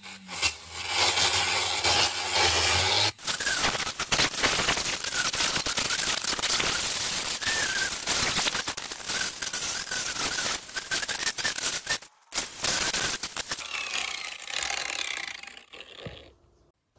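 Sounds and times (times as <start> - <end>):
angle grinder motor whine: 0.0 - 16.4.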